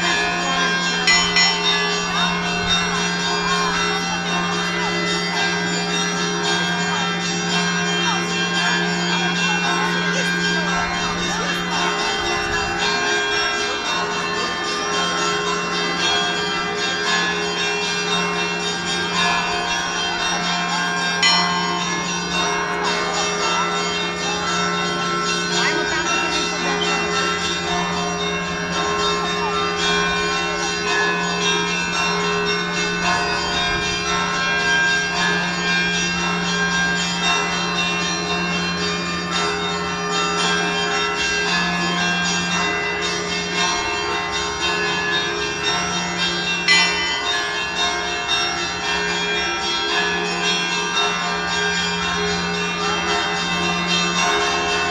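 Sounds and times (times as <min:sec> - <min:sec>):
church bells ringing: 0:00.0 - 0:54.9
low bell hum: 0:00.0 - 0:54.9.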